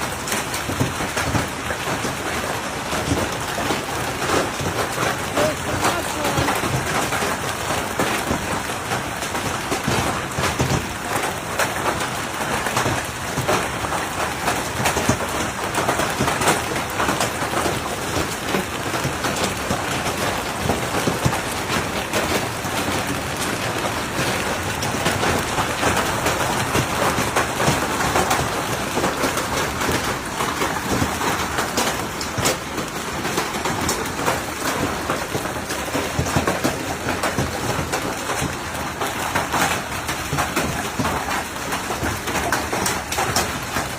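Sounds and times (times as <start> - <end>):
heavy rain pelting down: 0.0 - 43.9.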